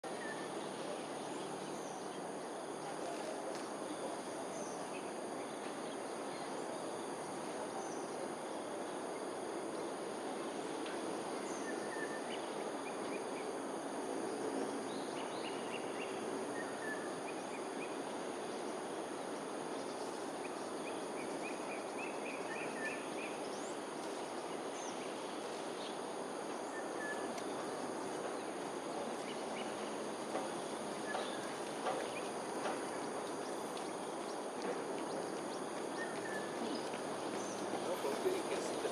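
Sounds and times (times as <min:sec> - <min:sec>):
low hiss: 0:00.0 - 0:38.9
insect drone: 0:00.1 - 0:38.9.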